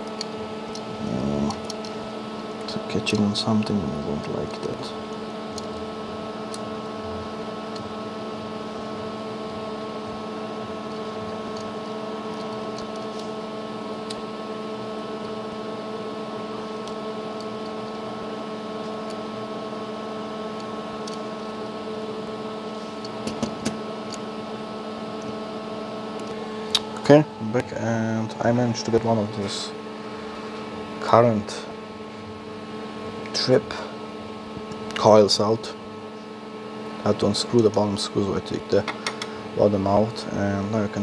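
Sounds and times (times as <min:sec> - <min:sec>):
steady machine hum: 0:00.0 - 0:41.0.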